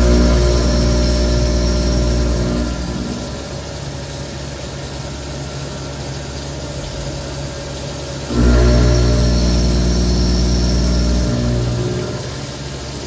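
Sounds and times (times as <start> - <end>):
machine hum of several tones: 0.0 - 5.8, 6.7 - 13.0
milling and coolant spray: 0.0 - 13.0.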